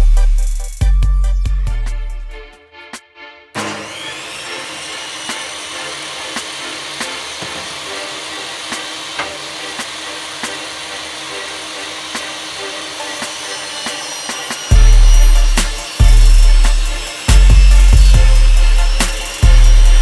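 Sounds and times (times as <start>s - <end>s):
table saw whining: 3.6s - 20.0s.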